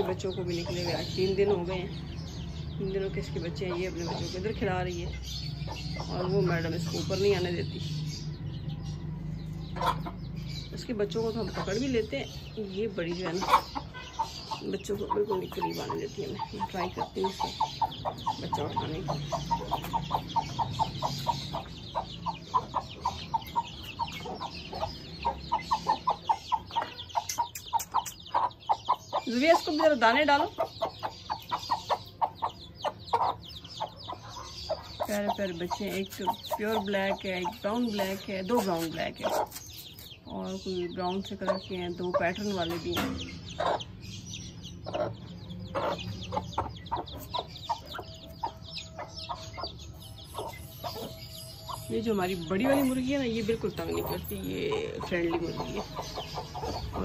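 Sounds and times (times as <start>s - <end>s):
hen clucking: 0.0s - 7.8s, 9.4s - 57.0s
chicks peeping: 0.0s - 57.0s.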